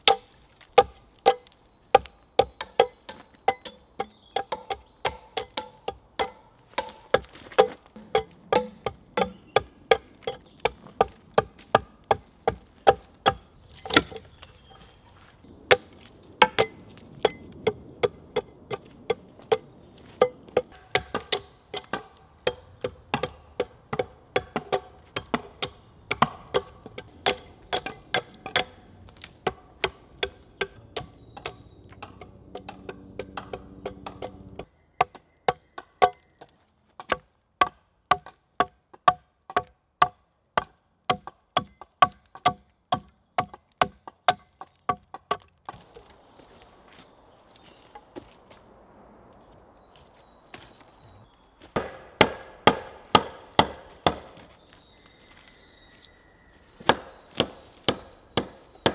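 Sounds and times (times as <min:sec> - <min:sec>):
hatchet chopping log: 0:00.0 - 0:14.5, 0:15.7 - 0:46.0, 0:51.7 - 0:54.5, 0:56.8 - 0:58.9.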